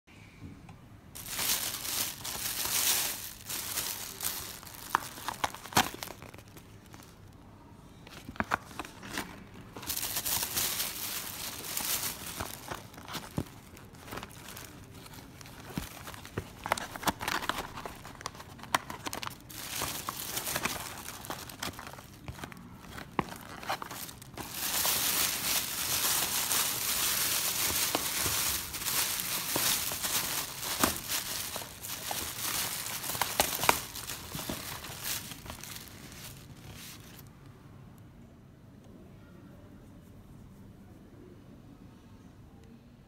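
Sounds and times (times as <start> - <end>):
plastic bag crinkling: 1.2 - 7.4, 8.2 - 37.3.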